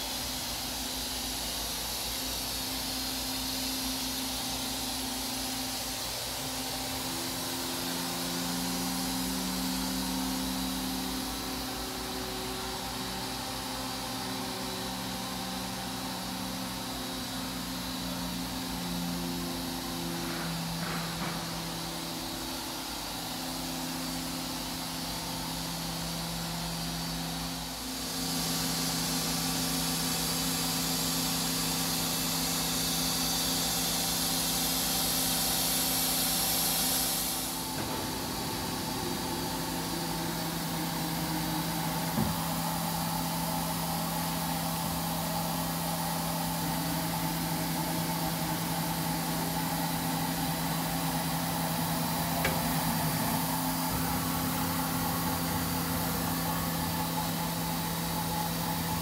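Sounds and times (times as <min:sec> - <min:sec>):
hiss: 0:00.0 - 0:59.0
machine hum: 0:00.0 - 0:59.0.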